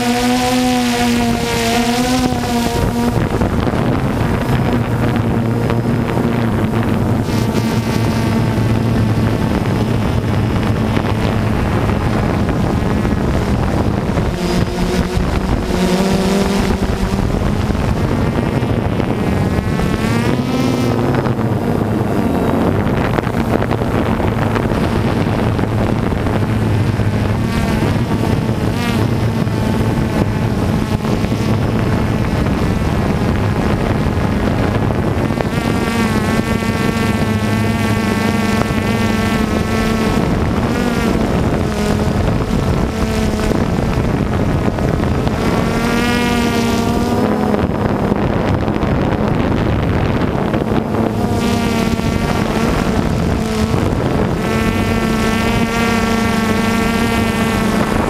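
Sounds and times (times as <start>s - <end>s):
drone motors buzzing whine: 0.0s - 58.0s
wind on microphone: 0.0s - 58.0s.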